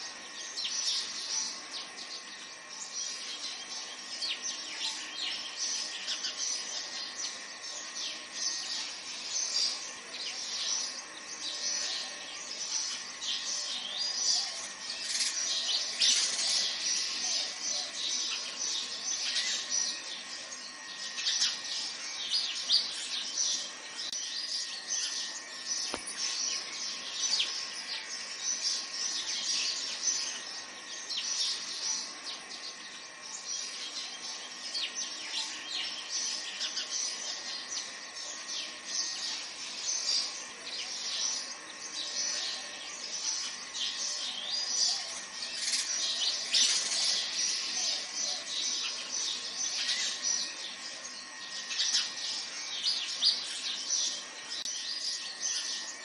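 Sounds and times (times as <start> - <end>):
faint high whine: 0.0 - 56.0
small birds chirping chorus: 0.0 - 56.0.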